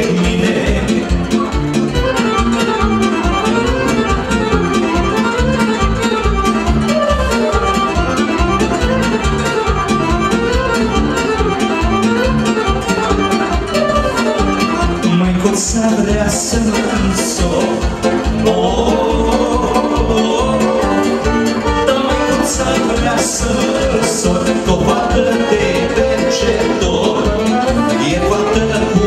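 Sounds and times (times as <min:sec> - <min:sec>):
live folk dance band: 0:00.0 - 0:29.0
fiddle-like lead fast runs: 0:00.3 - 0:29.0.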